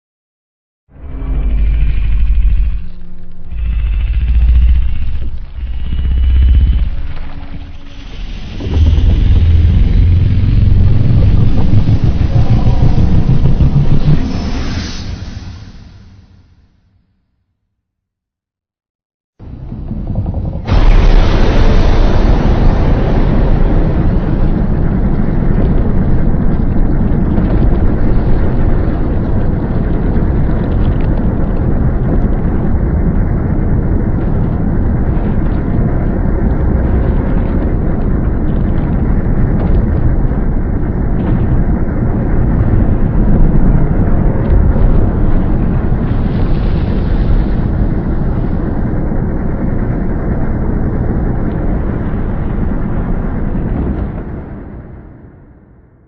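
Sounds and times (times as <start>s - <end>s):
loud low rumble: 0.9s - 16.6s, 19.4s - 55.8s.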